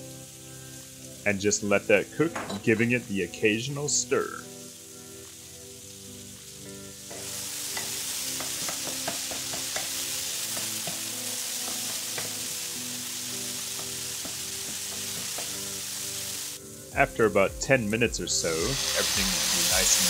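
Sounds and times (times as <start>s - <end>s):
food sizzling in a frying pan: 0.0s - 16.9s, 17.9s - 20.0s.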